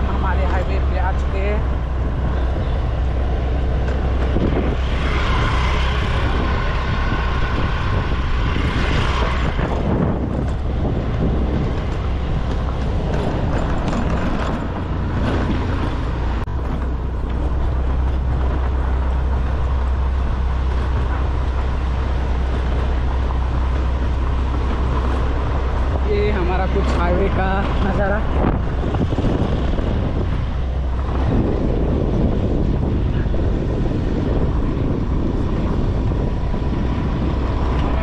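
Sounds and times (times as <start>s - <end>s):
vehicle rumble on highway: 0.0s - 38.0s.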